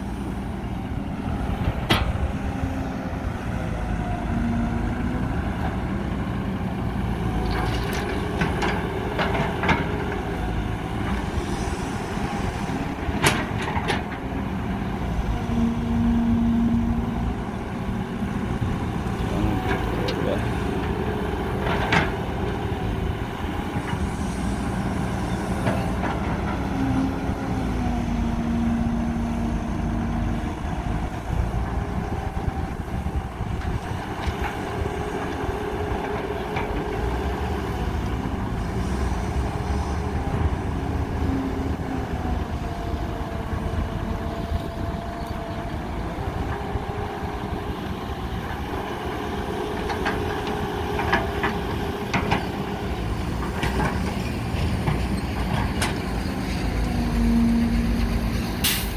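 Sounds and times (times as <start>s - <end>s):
excavator diesel engine under load: 0.0s - 58.9s.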